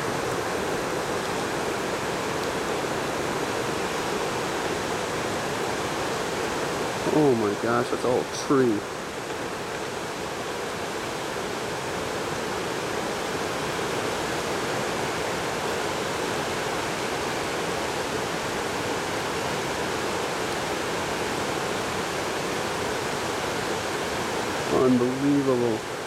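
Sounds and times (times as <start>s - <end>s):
flooded creek rushing: 0.0s - 26.0s.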